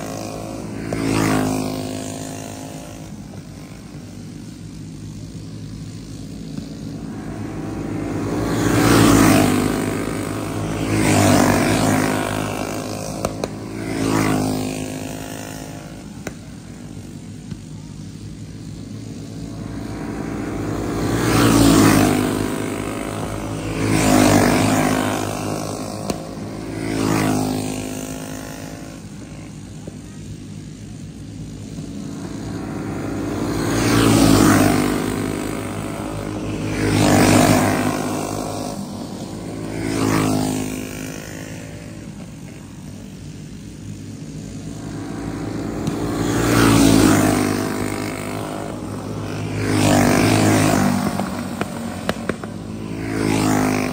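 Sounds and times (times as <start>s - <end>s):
racing karts passing: 0.0s - 53.9s.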